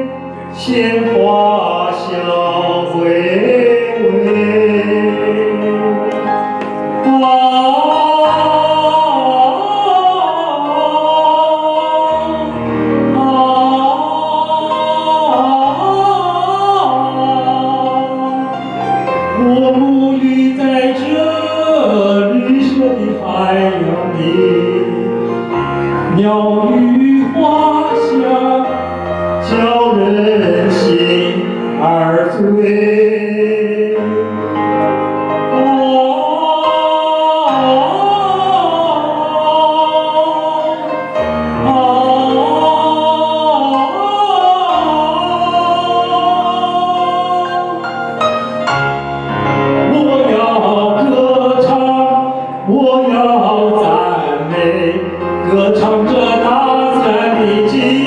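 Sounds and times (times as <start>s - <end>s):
musical accompaniment: 0.0s - 58.0s
person singing wordless melody: 0.0s - 58.0s.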